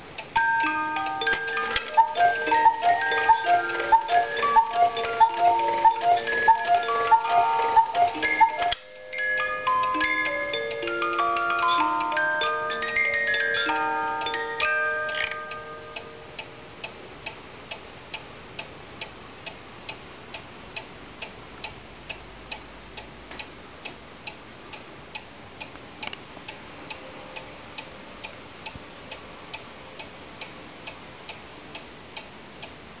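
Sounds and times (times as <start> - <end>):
clock ticking: 0.0 - 32.8.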